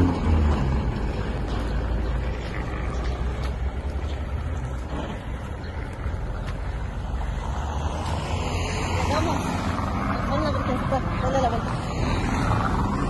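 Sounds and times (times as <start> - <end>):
roadside traffic rumble: 0.0 - 13.0.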